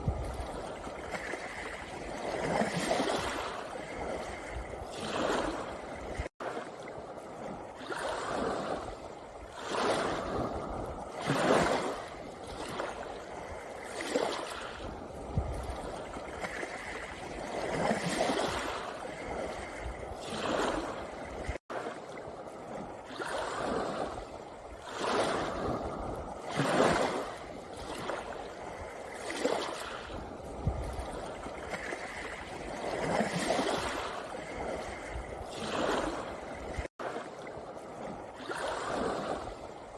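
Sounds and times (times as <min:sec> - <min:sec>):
waves washing over pebble beach: 0:00.0 - 0:06.7, 0:07.3 - 0:22.0, 0:22.6 - 0:39.9.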